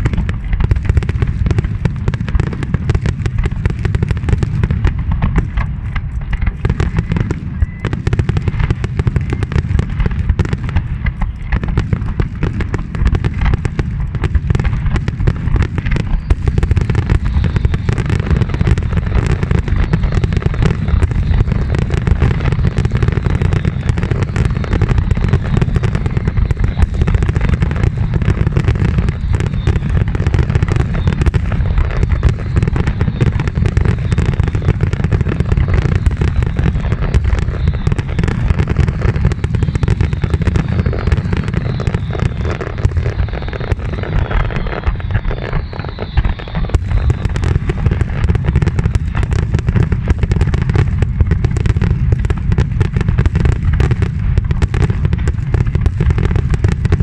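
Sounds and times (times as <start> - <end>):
heavy low rumble: 0.0 - 52.8
fireworks bursting and banging: 0.0 - 57.0.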